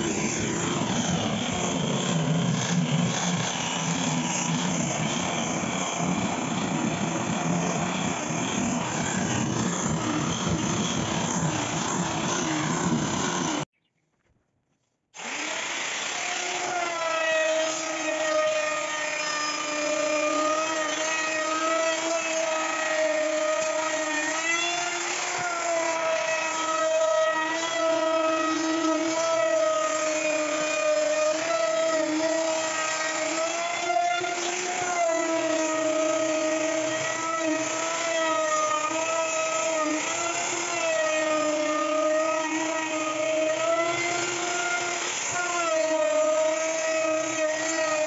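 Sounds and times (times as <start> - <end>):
angle grinder sanding wood: 0.0 - 13.7, 15.2 - 48.0
electric router whining: 0.0 - 13.7, 15.2 - 48.0.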